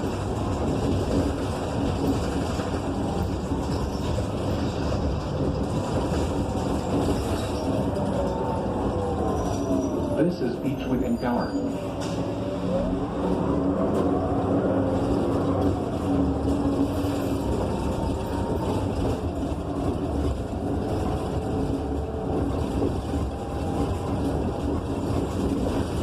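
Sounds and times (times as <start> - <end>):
bus engine drone from inside: 0.0 - 26.0.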